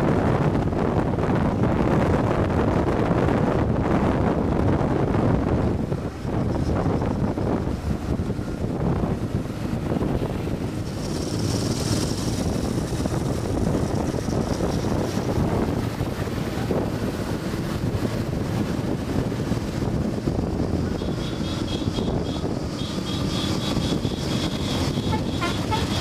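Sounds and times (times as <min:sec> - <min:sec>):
motorcycle engines running: 0:00.0 - 0:26.0
wind buffeting microphone: 0:00.0 - 0:26.0.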